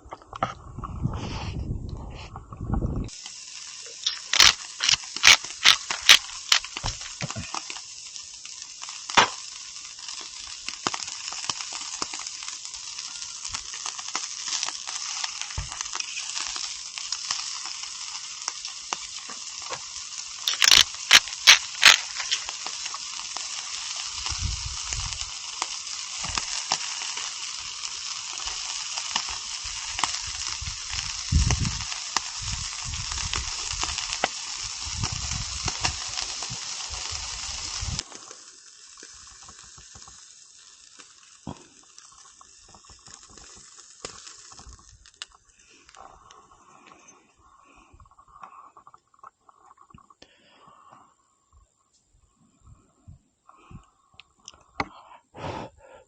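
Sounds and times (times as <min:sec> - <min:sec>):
wood fire crackling pops: 0:02.6 - 0:48.6
meat sizzling on a grill: 0:02.9 - 0:48.8.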